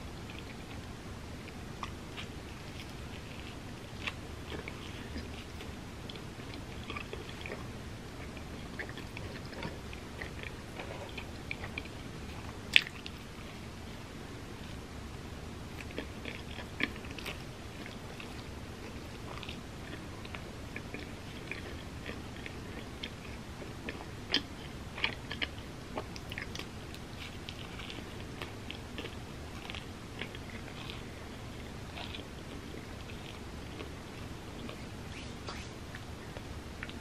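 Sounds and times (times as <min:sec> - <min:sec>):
person chewing crunchy food: 0:00.1 - 0:14.9, 0:15.6 - 0:37.0.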